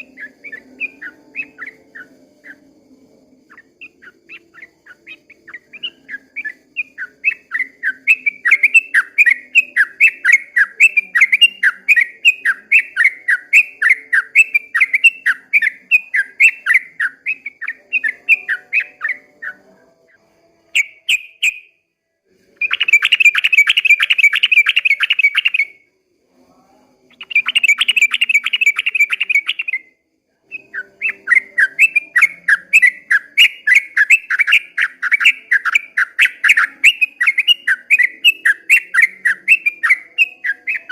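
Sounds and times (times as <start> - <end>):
bulbul chirping: 0.0 - 2.7, 3.4 - 19.7, 20.7 - 21.8, 22.6 - 25.8, 27.2 - 29.9, 30.5 - 40.9.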